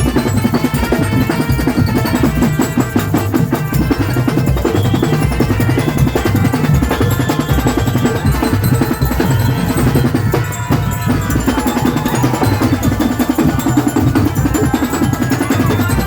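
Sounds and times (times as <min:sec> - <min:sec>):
loud music with heavy drum beat: 0:00.0 - 0:16.0.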